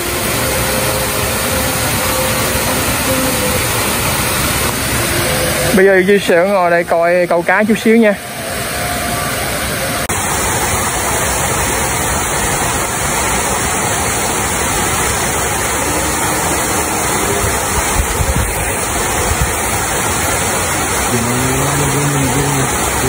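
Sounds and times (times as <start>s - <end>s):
water pouring over weir: 0.0s - 23.0s.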